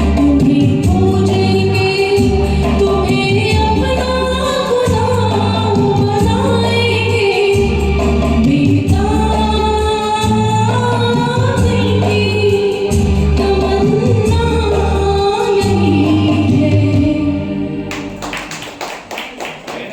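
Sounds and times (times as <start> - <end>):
woman singing: 0.0 - 18.2
karaoke backing track: 0.0 - 19.9.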